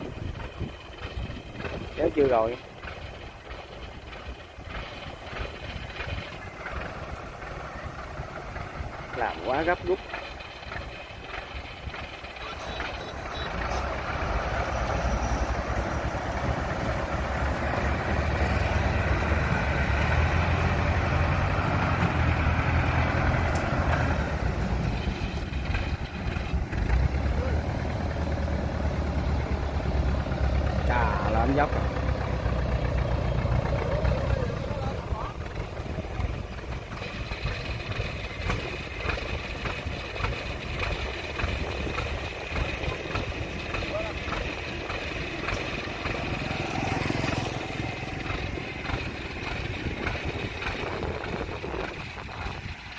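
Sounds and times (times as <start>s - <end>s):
combine harvester diesel engine: 0.0s - 52.9s.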